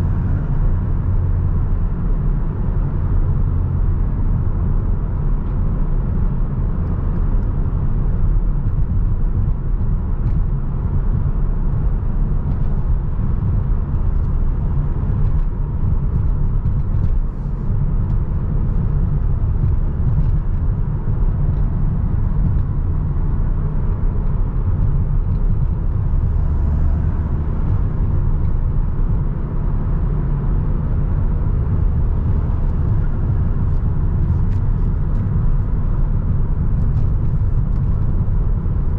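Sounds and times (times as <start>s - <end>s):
car engine cruising: 0.0s - 38.9s
tyre and road noise: 0.0s - 38.9s.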